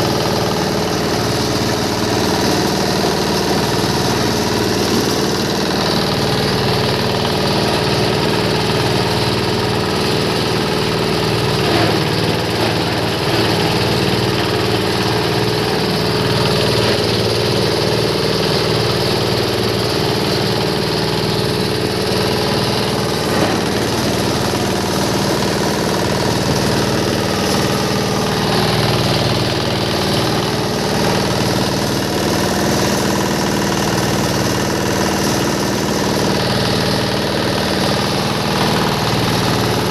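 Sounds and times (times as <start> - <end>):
shredder machine drone: 0.0 - 39.9.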